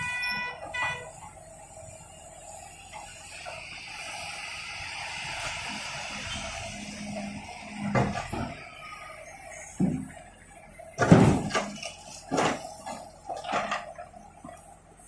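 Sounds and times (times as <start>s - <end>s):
backhoe engine running: 0.0s - 15.0s.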